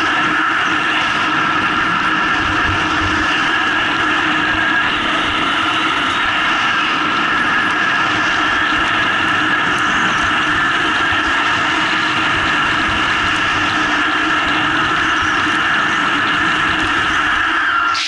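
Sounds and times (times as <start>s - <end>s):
wind over microphone: 0.0s - 18.0s.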